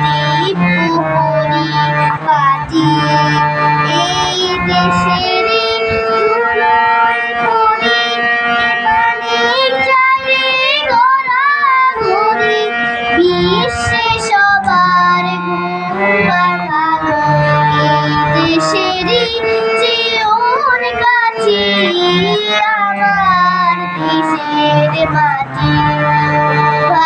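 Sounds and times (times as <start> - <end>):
girl singing: 0.0 - 27.0
instrumental accompaniment: 0.0 - 27.0.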